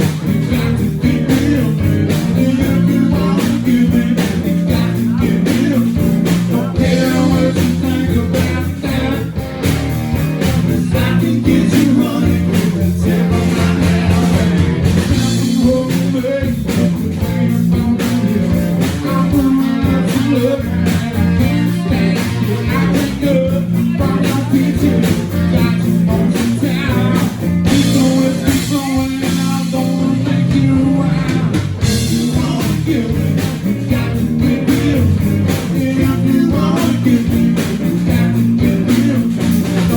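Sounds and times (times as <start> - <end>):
blues-rock band playing: 0.0 - 39.9
electric guitar: 0.0 - 39.9
person singing: 0.0 - 39.9.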